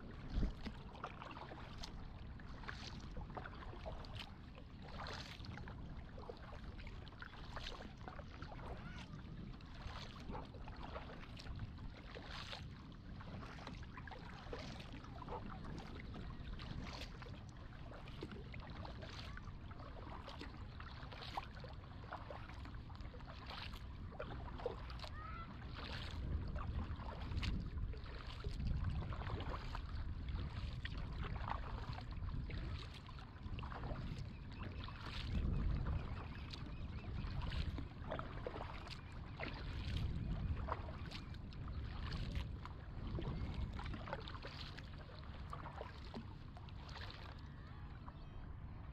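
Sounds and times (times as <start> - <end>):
paddle splashing in water: 0.0 - 48.9.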